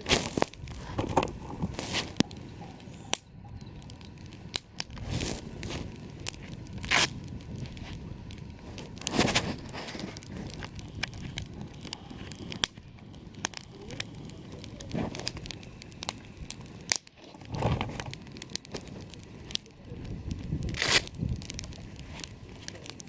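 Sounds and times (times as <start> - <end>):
campfire crackling and popping: 0.0 - 23.0
rustling and crunching: 0.0 - 23.0.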